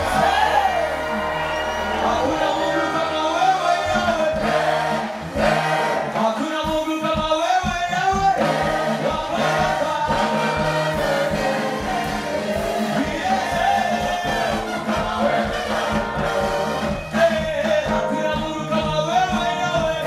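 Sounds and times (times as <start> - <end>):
choir singing gospel music: 0.0 - 20.0.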